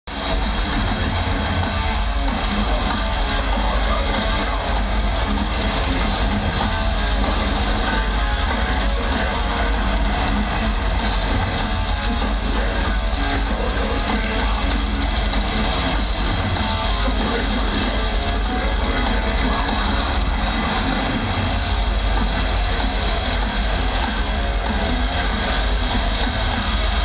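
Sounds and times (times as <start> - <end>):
live metal band playing: 0.1 - 27.0.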